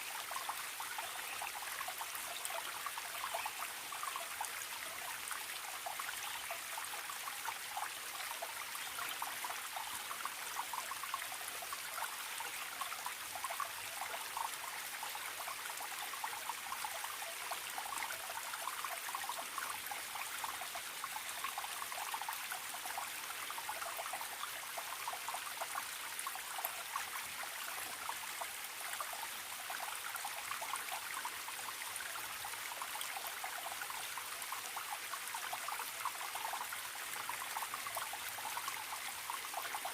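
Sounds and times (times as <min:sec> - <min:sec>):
stream trickling and gurgling: 0:00.0 - 0:39.9.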